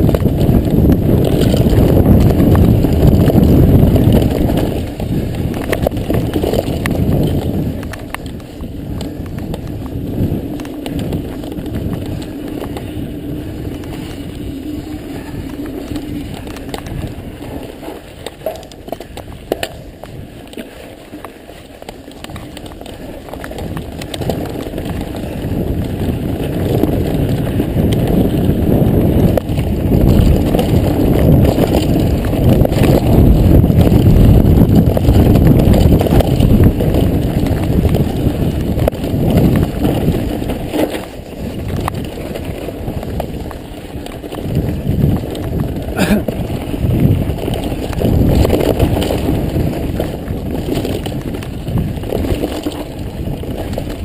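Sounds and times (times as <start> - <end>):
bike rattling over bumps: 0.0 - 54.0
tyres rolling over dirt and stones: 0.0 - 54.0
wind on microphone: 0.0 - 54.0.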